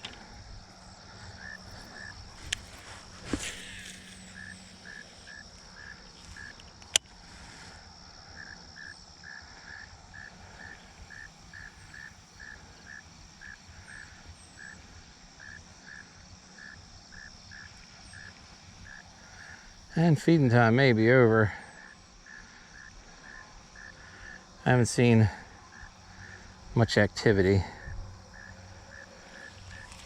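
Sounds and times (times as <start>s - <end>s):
insect chirps: 0.0s - 30.0s
insects droning: 0.0s - 30.0s.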